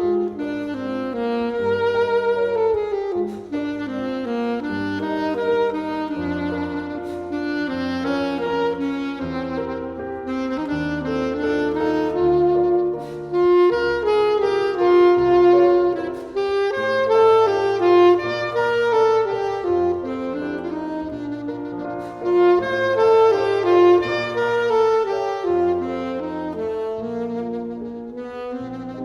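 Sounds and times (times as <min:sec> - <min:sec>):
piano accompaniment: 0:00.0 - 0:29.0
saxophone slow melody: 0:00.0 - 0:29.0.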